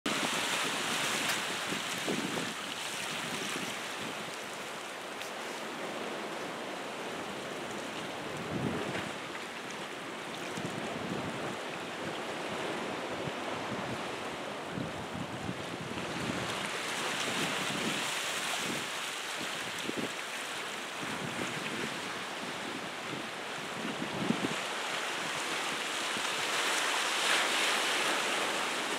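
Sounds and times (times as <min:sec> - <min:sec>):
surf washing over rocks: 0:00.1 - 0:28.9.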